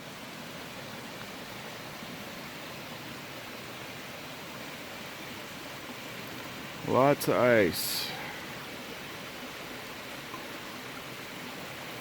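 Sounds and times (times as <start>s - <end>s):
waterfall rushing: 0.4s - 12.0s.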